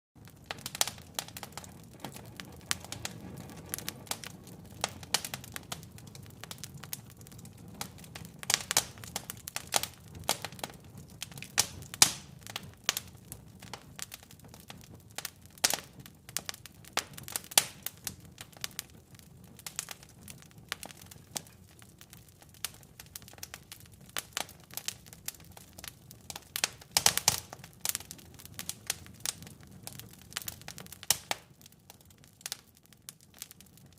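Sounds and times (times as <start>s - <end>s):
logs crackling and popping in fireplace: 0.2s - 33.9s
low rumble of flames: 0.2s - 33.9s.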